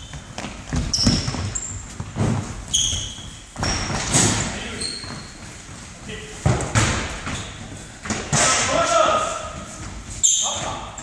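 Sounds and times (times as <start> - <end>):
shoes squeaking: 0.0 - 11.0.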